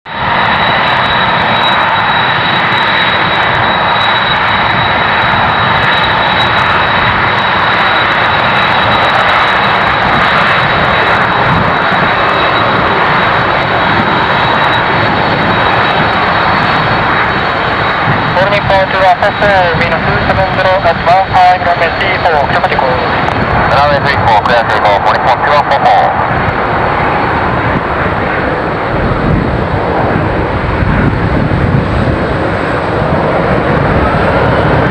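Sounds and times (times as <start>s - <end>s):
jet engines rushing with high whine: 0.0s - 34.9s.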